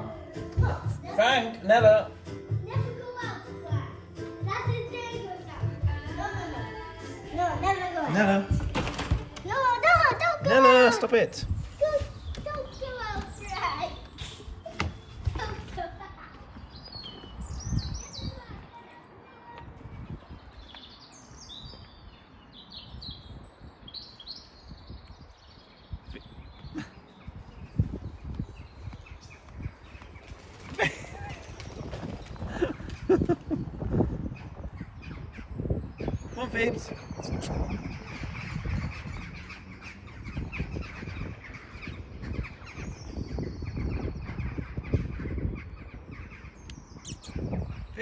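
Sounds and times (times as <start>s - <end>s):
faint outdoor background noise: 0.0s - 48.0s
small birds chirping: 0.0s - 48.0s
songbird singing: 4.9s - 48.0s.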